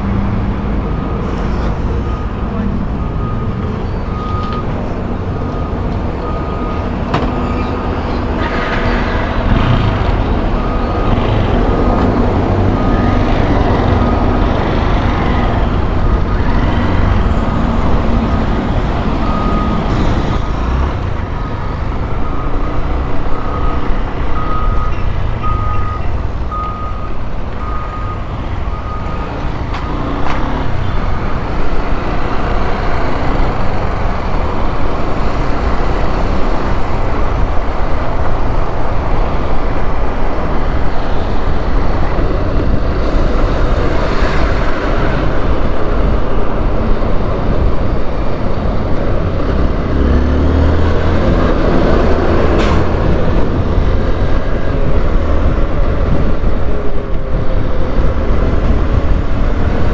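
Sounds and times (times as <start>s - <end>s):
traffic noise: 0.0s - 59.9s.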